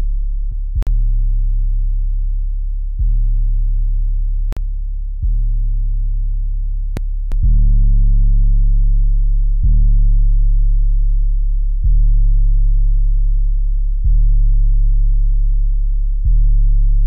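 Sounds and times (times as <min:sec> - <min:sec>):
sub bass notes: 0:00.0 - 0:17.0.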